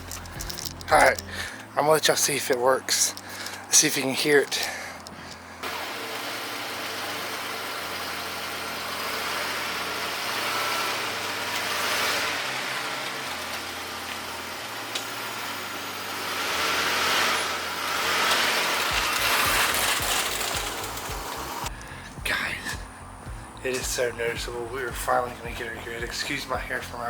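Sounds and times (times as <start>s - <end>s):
car driving: 0.0s - 27.0s.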